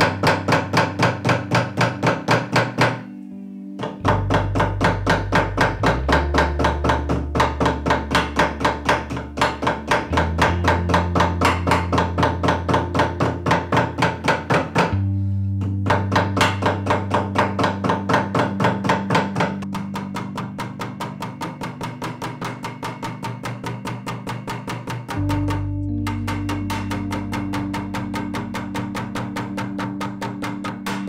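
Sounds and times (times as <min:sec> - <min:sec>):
hammer tapping rapidly: 0:00.0 - 0:03.0, 0:03.8 - 0:15.0, 0:15.6 - 0:31.0
soft background music: 0:00.0 - 0:31.0.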